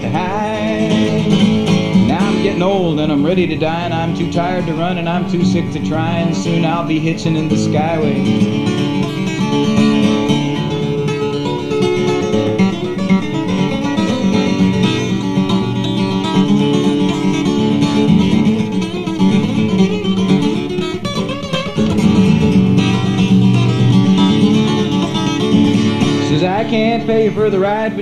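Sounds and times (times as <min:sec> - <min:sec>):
acoustic guitar strummed and picked: 0:00.0 - 0:28.0.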